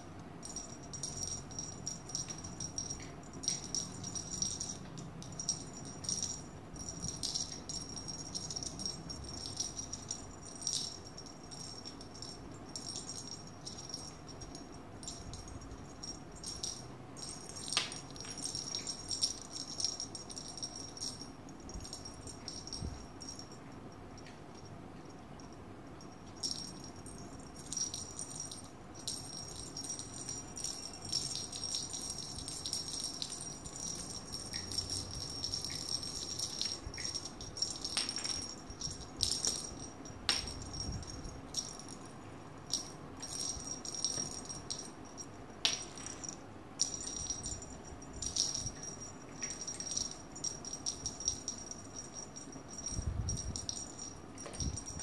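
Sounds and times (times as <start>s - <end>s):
small bell jingling: 0.0s - 55.0s.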